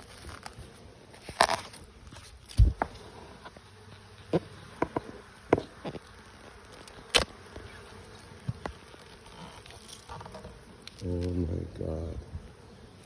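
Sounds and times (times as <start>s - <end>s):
bees buzzing: 2.5s - 13.0s.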